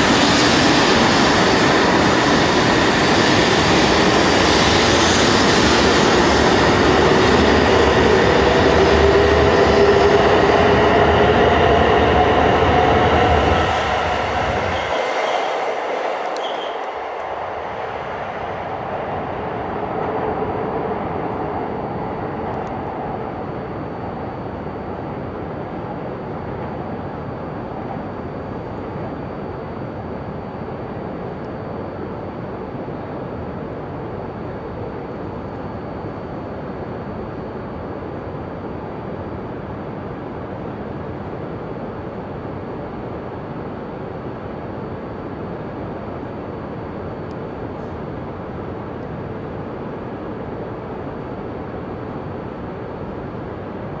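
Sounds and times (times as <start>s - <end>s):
departing train: 0.0s - 54.0s
faint high whine: 0.0s - 54.0s
steady rumbling background noise: 0.0s - 54.0s.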